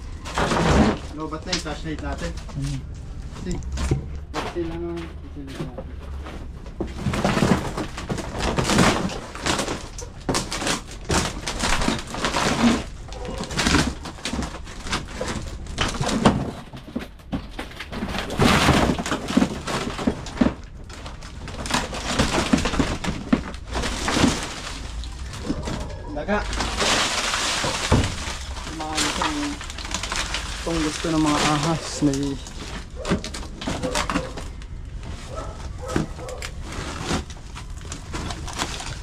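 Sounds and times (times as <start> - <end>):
knocking scraping and crunching: 0.0 - 39.0.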